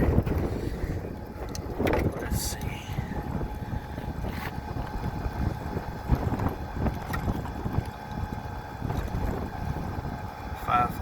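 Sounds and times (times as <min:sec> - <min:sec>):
gas unit humming: 0:00.0 - 0:11.0
wind buffeting microphone: 0:00.0 - 0:11.0.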